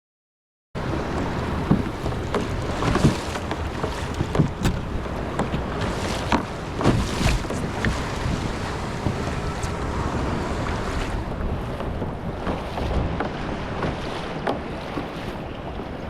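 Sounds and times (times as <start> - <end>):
water and wind noise: 0.8 - 16.0
water splashing against kayak hull: 0.8 - 16.0.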